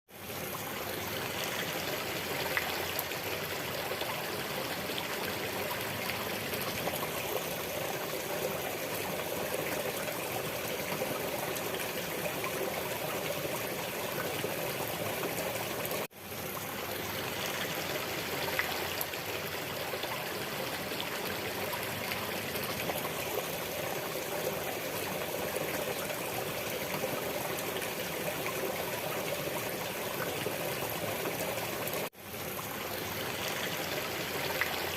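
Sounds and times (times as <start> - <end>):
water trickling: 0.2 - 34.9.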